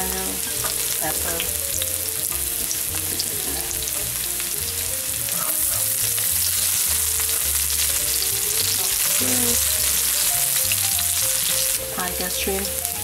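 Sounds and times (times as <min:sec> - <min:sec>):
spatula scraping and tapping wok: 0:00.0 - 0:12.7
garlic sizzling in hot oil: 0:00.0 - 0:13.0.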